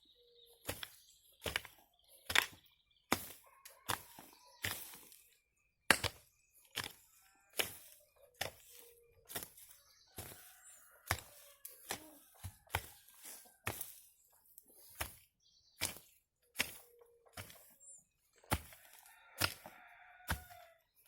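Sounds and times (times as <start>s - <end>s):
hoe chopping into soil: 0.6s - 5.3s, 5.9s - 14.1s, 14.8s - 20.8s.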